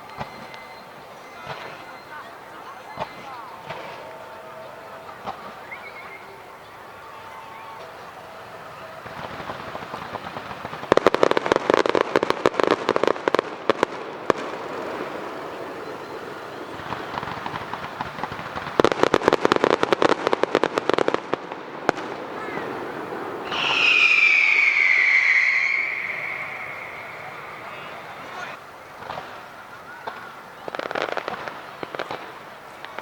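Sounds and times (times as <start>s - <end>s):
firework whistling: 0.0s - 7.0s, 7.8s - 29.5s
fireworks crackling: 0.0s - 7.1s, 7.8s - 33.0s.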